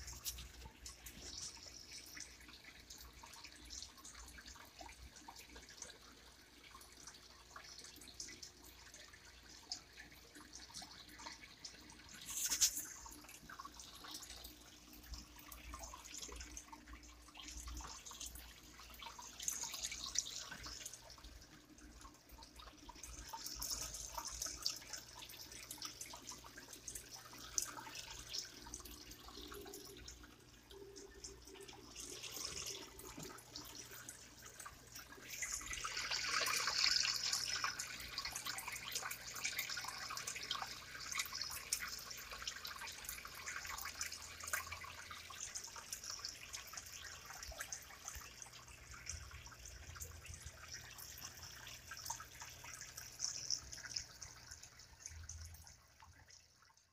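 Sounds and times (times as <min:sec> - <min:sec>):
aquarium air bubbles: 0:00.0 - 0:56.8.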